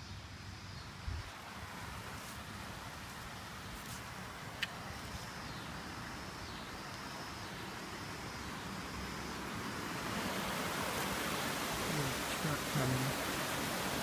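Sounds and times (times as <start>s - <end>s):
flood water hissing: 1.3s - 14.0s.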